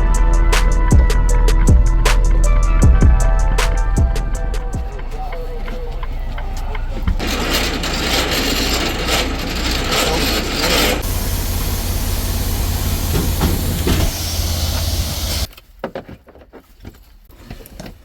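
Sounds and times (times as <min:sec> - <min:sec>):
diesel truck engine running: 0:00.0 - 0:15.5.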